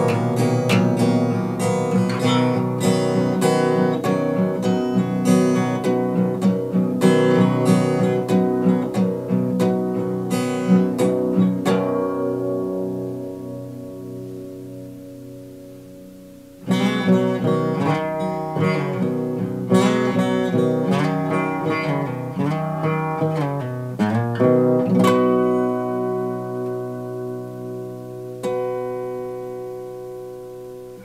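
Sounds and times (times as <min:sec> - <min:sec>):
fingerstyle acoustic guitar: 0:00.0 - 0:31.0.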